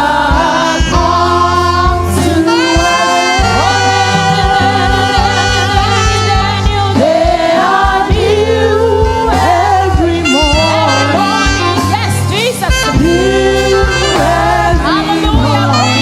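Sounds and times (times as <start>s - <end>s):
gospel lead voice: 0.0s - 16.0s
keyboard and bass: 0.0s - 16.0s.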